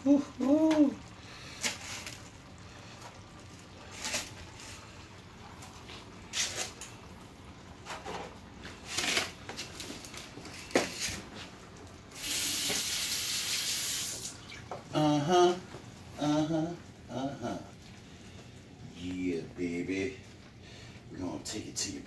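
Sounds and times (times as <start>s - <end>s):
deep fryer hiss: 0.0s - 22.0s.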